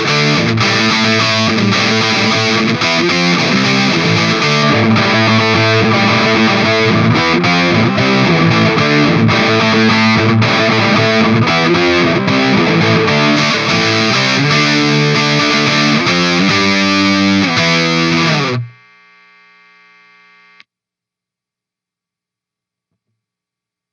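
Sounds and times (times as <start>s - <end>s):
distorted electric guitar: 0.0s - 20.6s.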